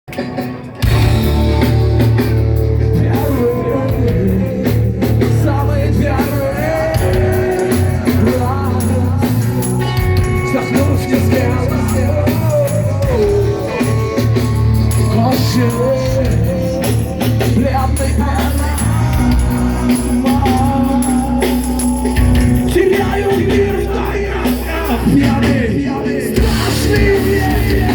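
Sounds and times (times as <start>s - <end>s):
rock band playing live: 0.1s - 27.9s.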